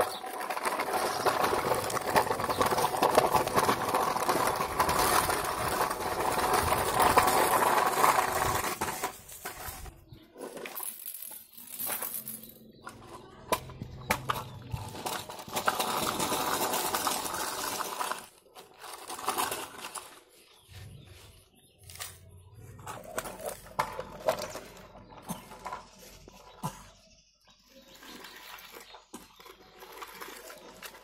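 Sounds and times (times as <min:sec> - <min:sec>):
plastic toys clicking and knocking: 0:00.0 - 0:20.5, 0:21.8 - 0:31.0
toy scraping: 0:00.0 - 0:20.7, 0:21.8 - 0:31.0.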